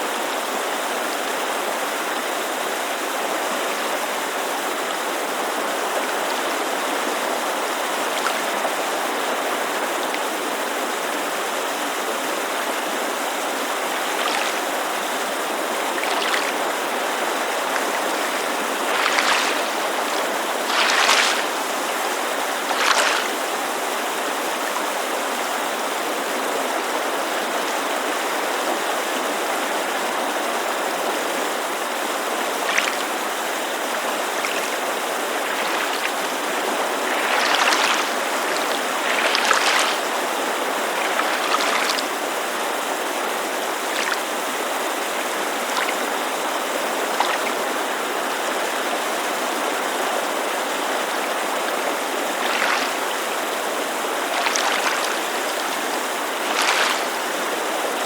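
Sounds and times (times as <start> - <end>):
mountain creek rushing: 0.0 - 58.0
water lapping against shore: 1.5 - 58.0.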